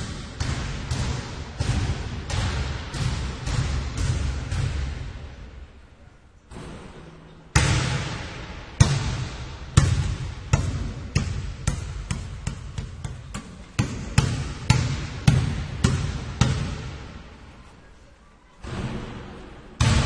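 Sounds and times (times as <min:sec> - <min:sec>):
basketball bouncing with echo: 0:00.0 - 0:05.7, 0:06.5 - 0:17.6, 0:18.6 - 0:20.0.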